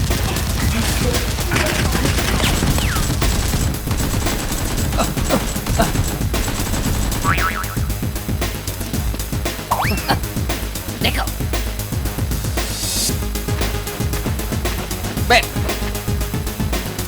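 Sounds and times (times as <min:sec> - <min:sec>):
rapid gunfire: 0:00.0 - 0:17.0.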